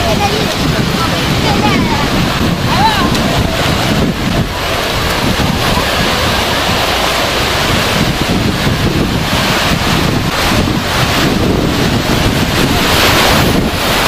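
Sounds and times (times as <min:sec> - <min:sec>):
surf breaking: 0:00.0 - 0:14.0
wind buffeting microphone: 0:00.0 - 0:14.0.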